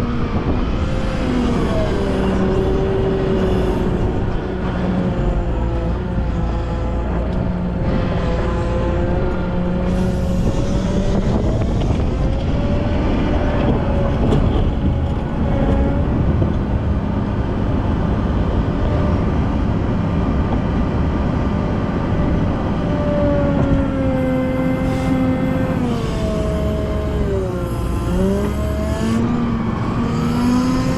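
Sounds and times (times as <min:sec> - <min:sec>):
wheel loader diesel engine: 0:00.0 - 0:30.9
whining tones sliding in pitch: 0:00.0 - 0:30.9.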